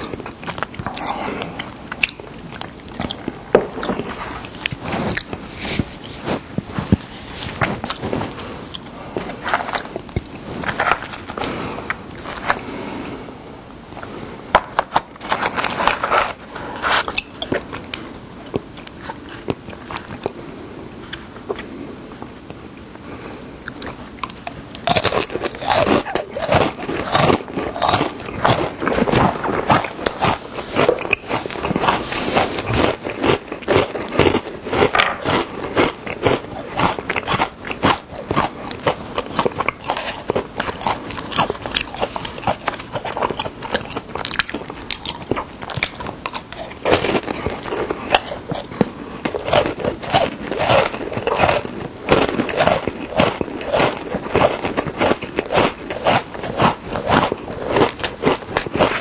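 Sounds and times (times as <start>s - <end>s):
crunchy biscuit chewing: 0.0s - 12.8s, 14.0s - 22.6s, 23.6s - 59.0s.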